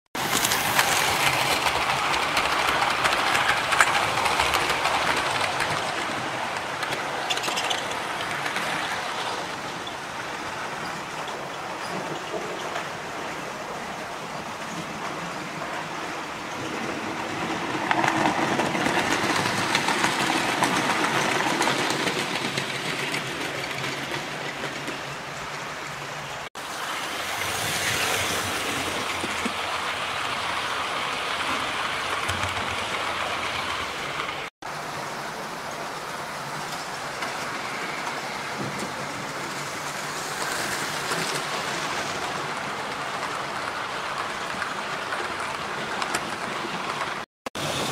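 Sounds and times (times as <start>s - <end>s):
model trains running on track: 0.2s - 47.9s.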